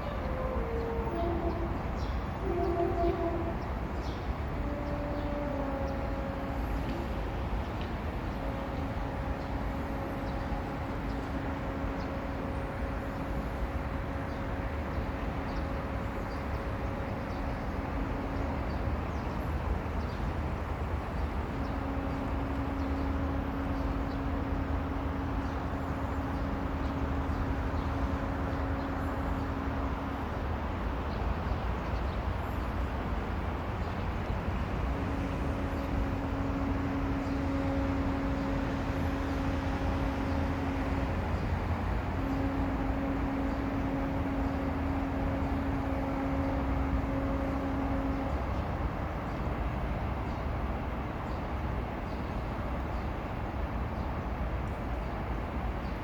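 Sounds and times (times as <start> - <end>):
droning hum: 0.0 - 55.4
traffic rumble: 0.0 - 56.0.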